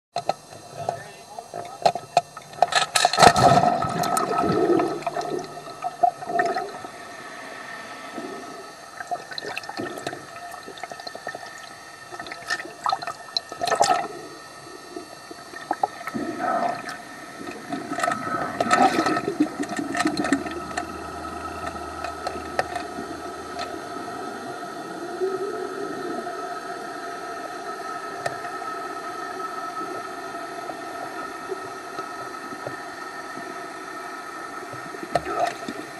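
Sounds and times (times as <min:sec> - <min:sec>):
boat engine hum underwater: 0:00.2 - 0:35.9
muffled underwater wash: 0:00.2 - 0:35.9.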